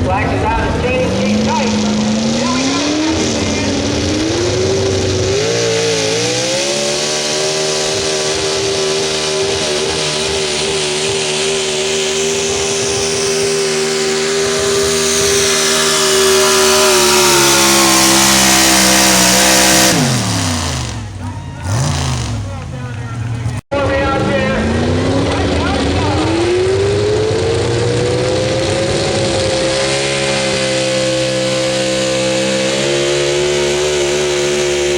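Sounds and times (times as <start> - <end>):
truck engine at full throttle: 0.0 - 34.9.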